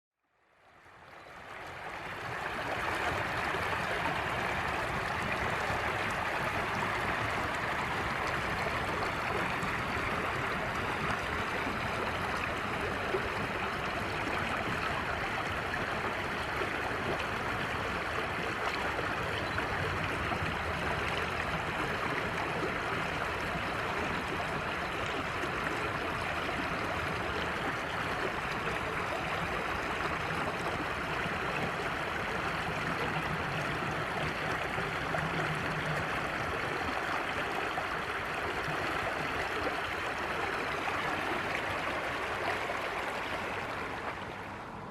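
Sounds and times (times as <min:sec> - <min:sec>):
flowing water rushing: 0:00.4 - 0:44.9.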